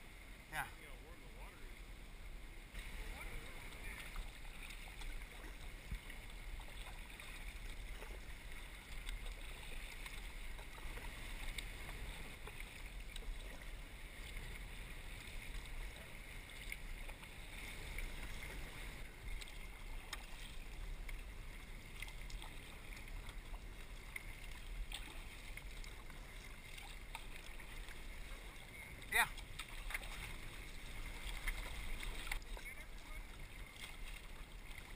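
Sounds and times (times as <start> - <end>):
paddle splashes: 0.0 - 34.9
water lapping against kayak: 0.0 - 34.9.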